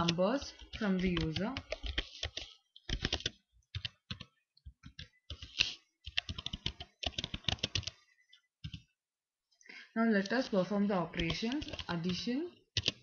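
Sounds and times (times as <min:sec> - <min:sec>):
computer keyboard typing: 0:00.0 - 0:08.9, 0:11.1 - 0:13.0.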